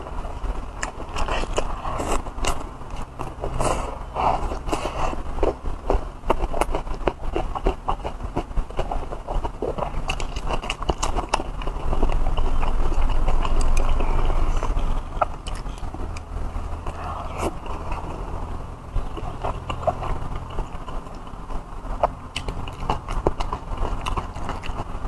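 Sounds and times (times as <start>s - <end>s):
low steady hum: 0.0s - 25.0s
person chewing and lip-smacking: 0.8s - 18.0s, 18.9s - 21.4s, 22.0s - 25.0s.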